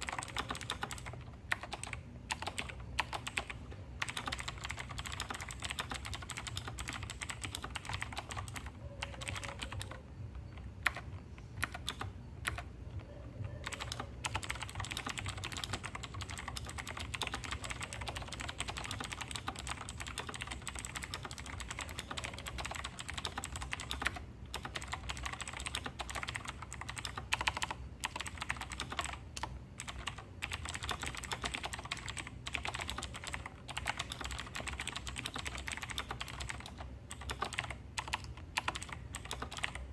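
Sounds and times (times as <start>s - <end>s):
fast typing on mechanical keyboard: 0.0s - 12.7s, 13.4s - 39.9s.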